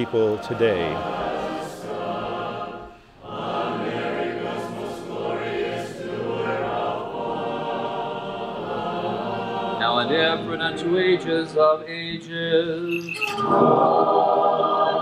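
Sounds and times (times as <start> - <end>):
church choir chanting a hymn: 0.0 - 15.0.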